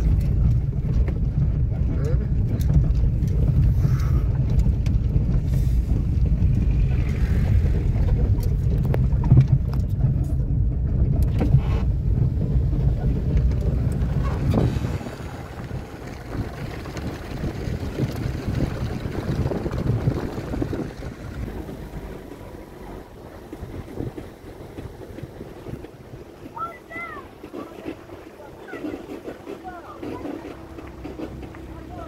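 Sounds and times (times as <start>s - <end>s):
car rumbling on dirt track: 0.0s - 32.0s.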